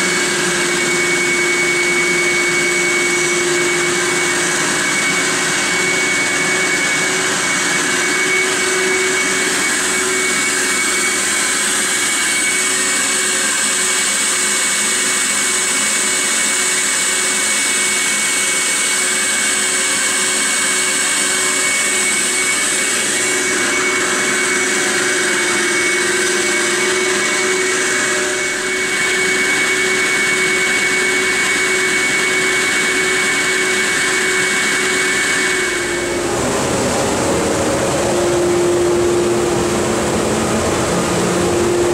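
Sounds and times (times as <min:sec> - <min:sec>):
dust collector running: 0:00.0 - 0:41.9
vacuum pump air rush with whine: 0:00.0 - 0:41.9.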